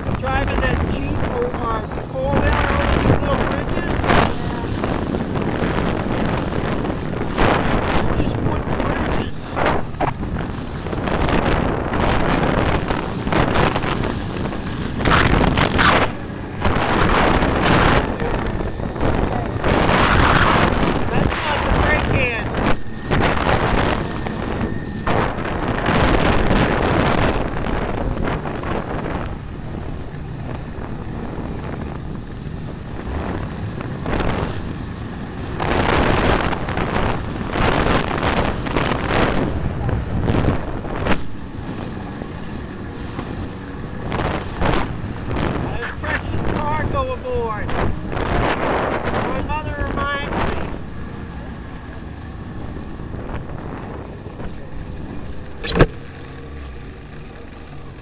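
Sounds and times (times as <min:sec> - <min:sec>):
snowmobile engine running: 0:00.0 - 0:58.0
wind buffeting microphone: 0:00.0 - 0:58.0.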